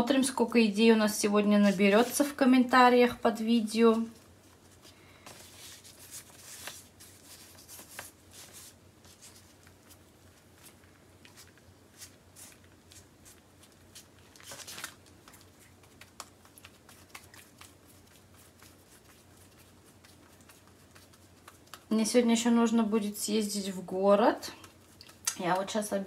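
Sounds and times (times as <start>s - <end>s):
baking paper rustling: 0.2s - 26.0s.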